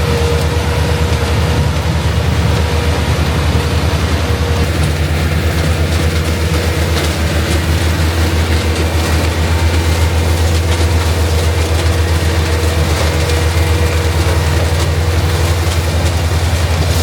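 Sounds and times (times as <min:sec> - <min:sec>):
diesel engine deep rumble: 0:00.0 - 0:17.0.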